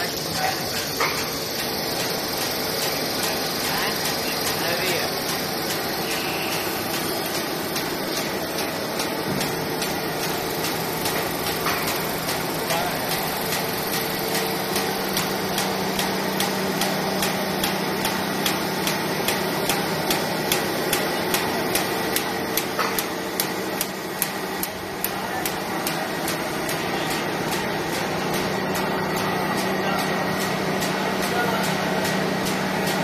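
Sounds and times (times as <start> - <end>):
paper cutting machine humming: 0.0 - 33.0
machine clicking: 0.1 - 33.0.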